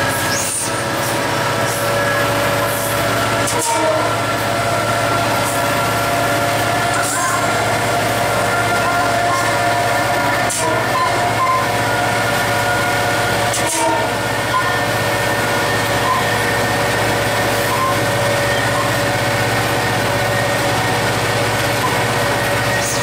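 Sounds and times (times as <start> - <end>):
diesel locomotive engine hum: 0.0 - 23.0.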